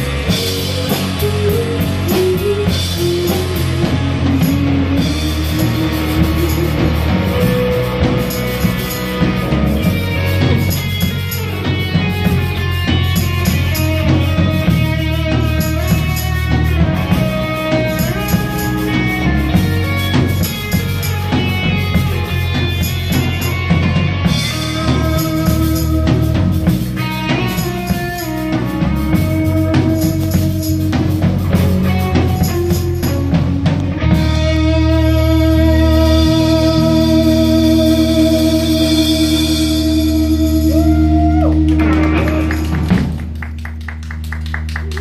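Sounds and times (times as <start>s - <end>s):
bass guitar: 0.0s - 45.0s
drum kit steady beat: 0.0s - 45.0s
electric guitar: 0.0s - 45.0s.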